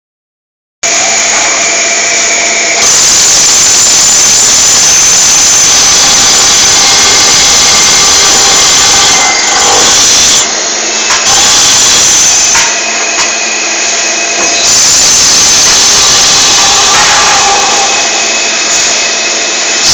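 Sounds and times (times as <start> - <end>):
cnc machine cutting: 0.8 - 19.9
faint high whine: 0.8 - 19.9.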